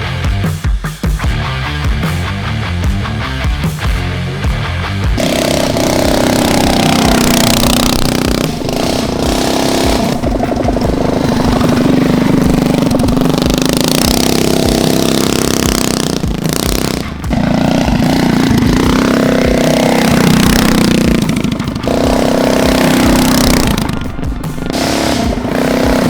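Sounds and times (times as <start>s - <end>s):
small engine revving high: 5.1s - 26.0s.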